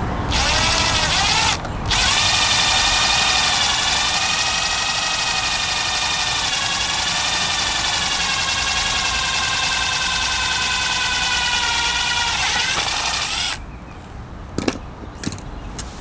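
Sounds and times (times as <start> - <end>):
cordless drill whining: 0.3 - 13.6.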